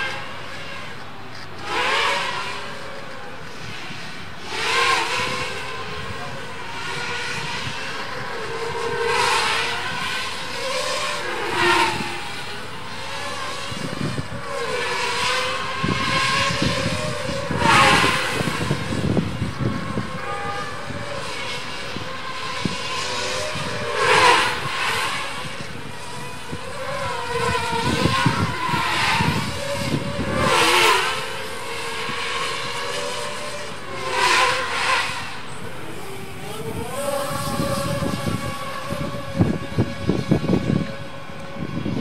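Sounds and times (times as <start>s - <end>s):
drone propellers whining: 0.0s - 42.0s.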